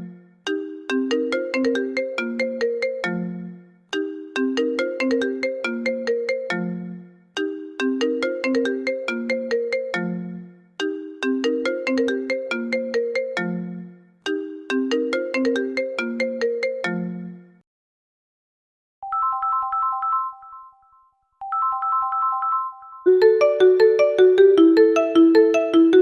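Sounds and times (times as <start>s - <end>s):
phone ringtone melody: 0.0s - 17.4s, 19.0s - 26.0s.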